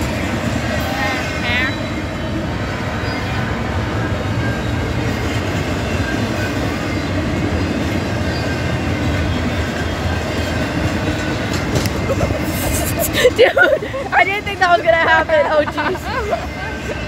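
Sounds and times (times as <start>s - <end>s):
freight train passing: 0.0s - 17.0s
train wheels on rails: 0.0s - 17.0s.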